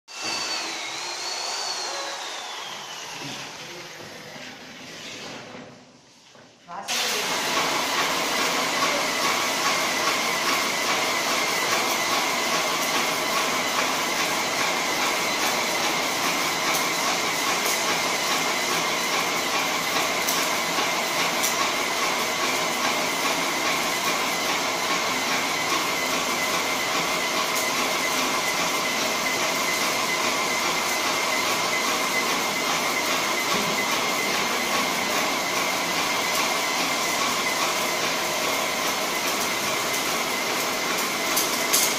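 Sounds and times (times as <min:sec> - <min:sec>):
paint sprayer hissing: 0:06.9 - 0:41.9.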